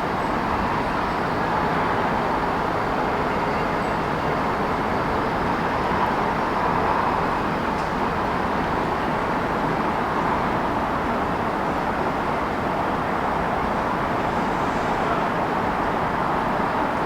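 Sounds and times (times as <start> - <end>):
city traffic noise: 0.0 - 17.0.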